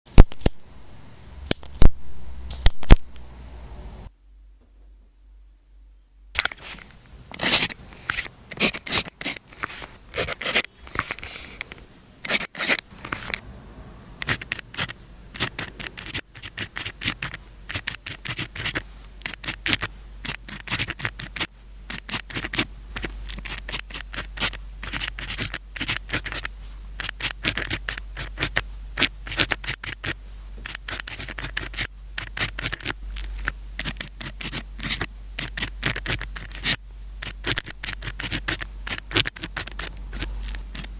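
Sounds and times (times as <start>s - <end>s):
pen scratching on paper: 6.6s - 11.6s, 12.2s - 13.4s, 14.2s - 40.9s.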